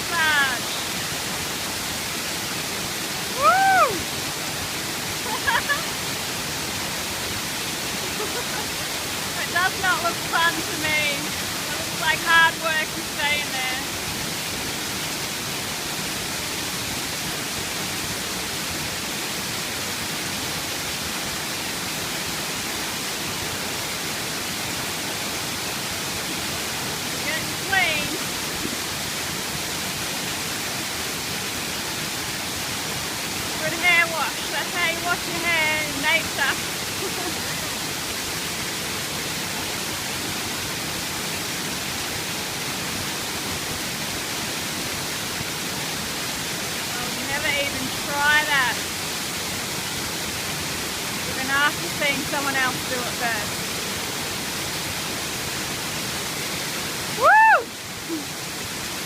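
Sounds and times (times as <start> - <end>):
waterfall splashing into pool: 0.0 - 59.0.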